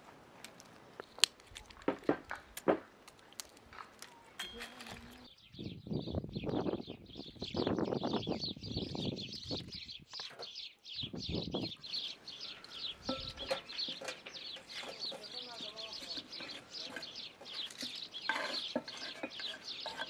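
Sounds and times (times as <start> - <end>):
birds chirping: 0.6 - 20.0.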